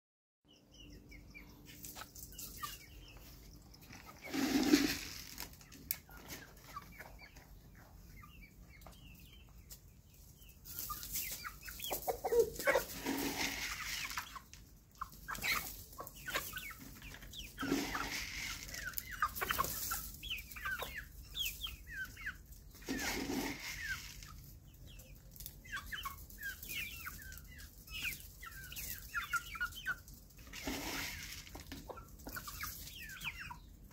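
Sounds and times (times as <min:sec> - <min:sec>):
chickens clucking: 0:00.5 - 0:33.9.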